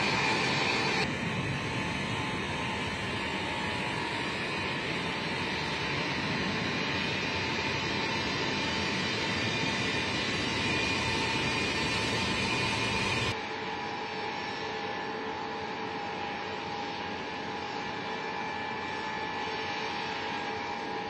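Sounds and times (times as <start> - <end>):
jet engines with high whine: 0.0 - 21.0.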